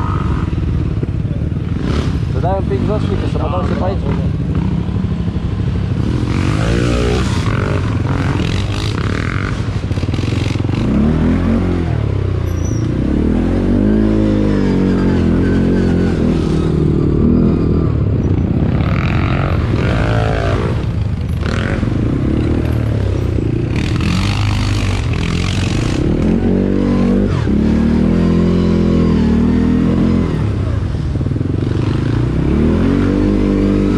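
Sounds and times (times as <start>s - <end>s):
atv engine revving: 0.0s - 33.9s.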